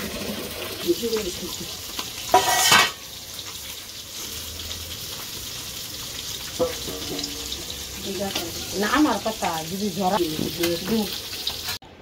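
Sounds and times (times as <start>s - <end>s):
food sizzling in hot oil: 0.0s - 11.8s.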